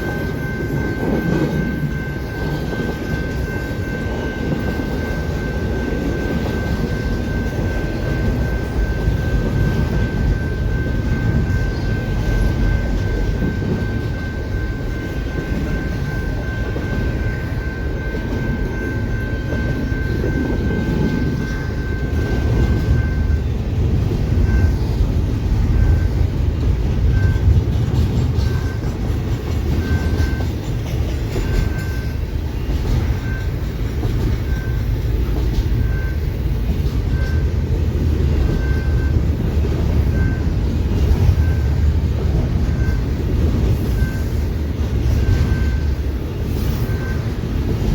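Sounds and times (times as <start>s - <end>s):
crossing bell ringing: 0.0s - 47.9s
train rumbling: 0.0s - 47.9s.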